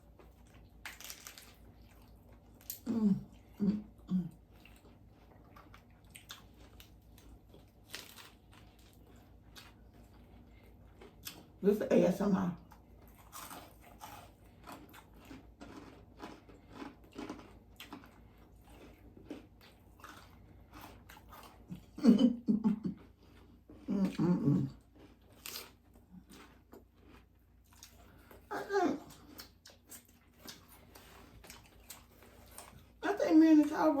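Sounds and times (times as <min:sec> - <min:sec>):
chewing and crunching food: 0:00.0 - 0:34.0.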